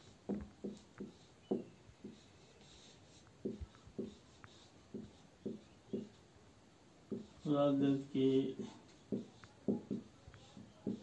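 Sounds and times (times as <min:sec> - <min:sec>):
marker pen writing on whiteboard: 0:00.0 - 0:06.2, 0:07.0 - 0:11.0.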